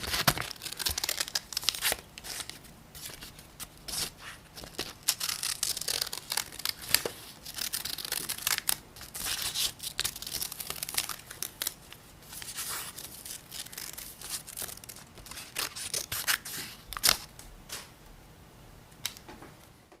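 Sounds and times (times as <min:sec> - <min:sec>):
crisp paper snips: 0:00.0 - 0:03.3, 0:03.9 - 0:17.9.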